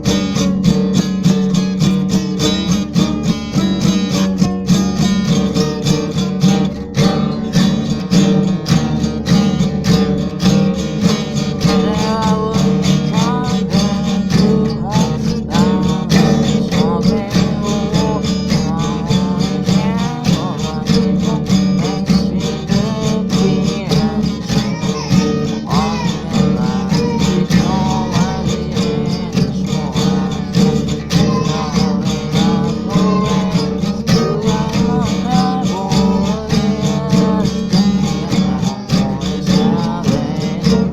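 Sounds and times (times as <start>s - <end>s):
person singing: 0.0s - 40.9s
strummed acoustic guitar: 0.0s - 40.9s.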